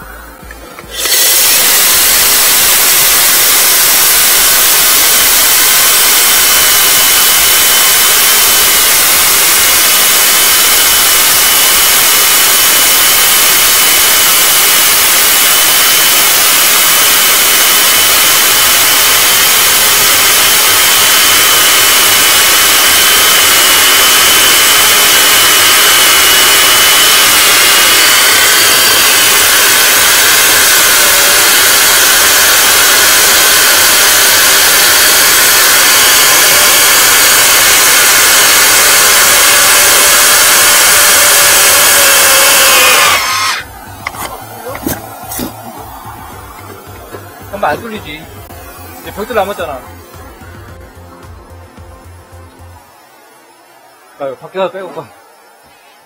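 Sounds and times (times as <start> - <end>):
core drill boring through wall: 0.0 - 50.8
vacuum cleaner: 0.0 - 56.0.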